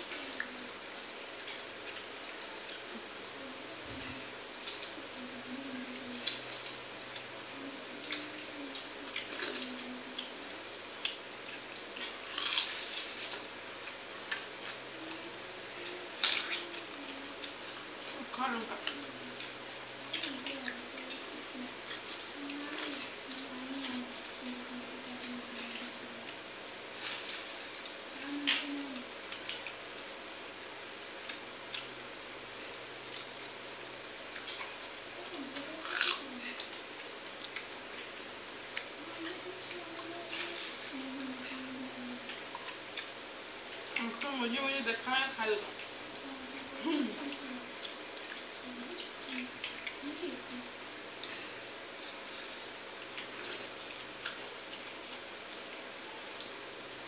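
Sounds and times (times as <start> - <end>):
chewing: 0.0 - 44.3, 45.5 - 56.9.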